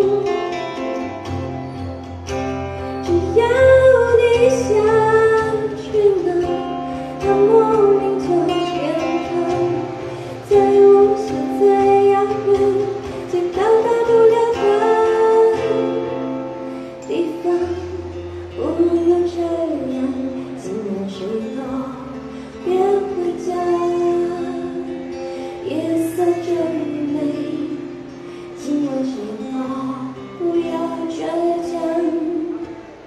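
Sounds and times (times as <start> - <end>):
acoustic guitar: 0.0 - 33.0
woman singing into a microphone: 0.0 - 33.0.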